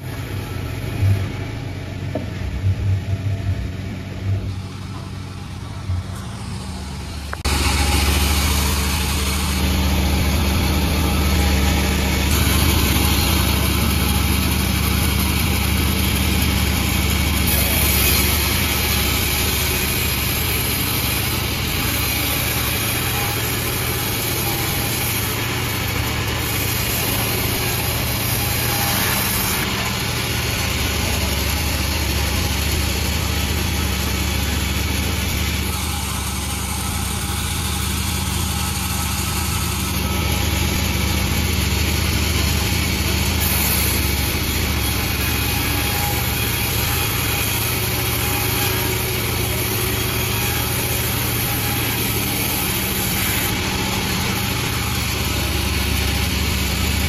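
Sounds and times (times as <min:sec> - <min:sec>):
sawmill machine running: 0:00.0 - 0:57.0.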